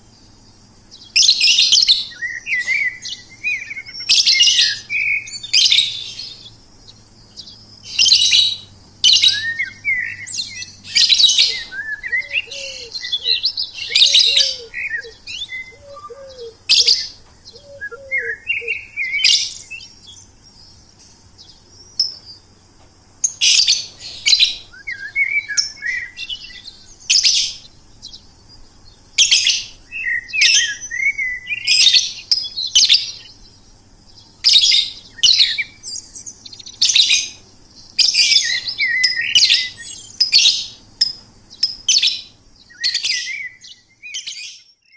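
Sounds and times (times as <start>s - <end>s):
low down-slurred bird calls: 0.0s - 44.9s
songbirds chirping and trilling: 0.0s - 44.9s.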